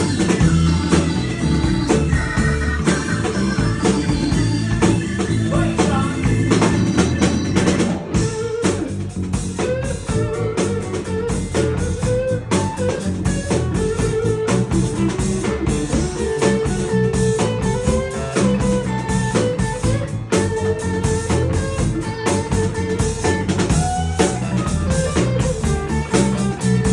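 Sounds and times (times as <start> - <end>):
blues band playing live: 0.0 - 26.9
drum beat: 0.0 - 26.9.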